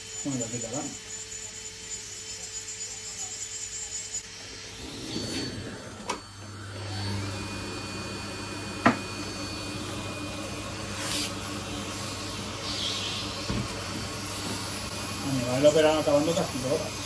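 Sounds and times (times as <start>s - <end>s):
nail drill with suction running: 0.0s - 17.0s.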